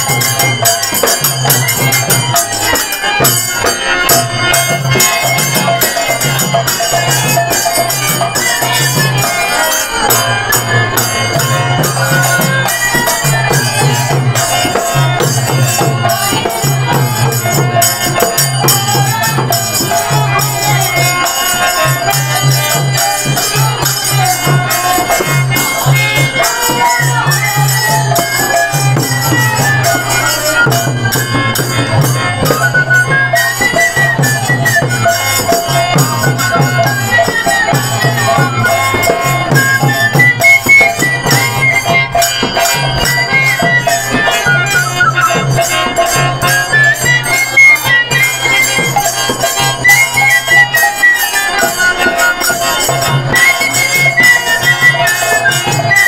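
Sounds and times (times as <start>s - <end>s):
barrel drum rhythm: 0.0s - 56.0s
jingling metal percussion: 0.0s - 56.0s
wavering melody: 0.0s - 56.0s.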